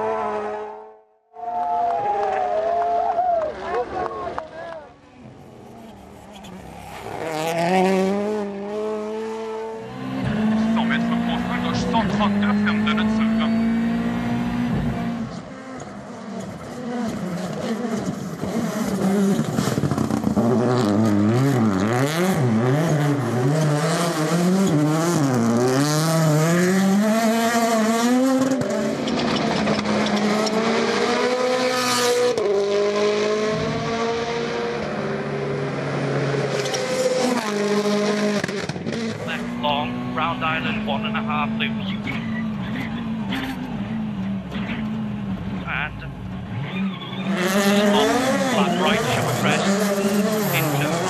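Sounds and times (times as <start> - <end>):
rally car engines revving: 3.7 - 51.0.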